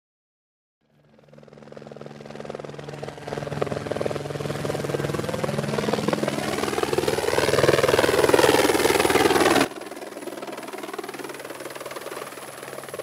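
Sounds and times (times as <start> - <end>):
helicopter rotor chopping: 0.8 - 13.0.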